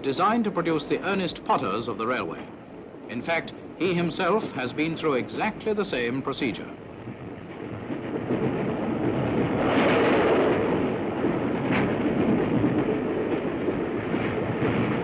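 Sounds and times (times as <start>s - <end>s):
steam locomotive rumbling: 0.0s - 15.0s.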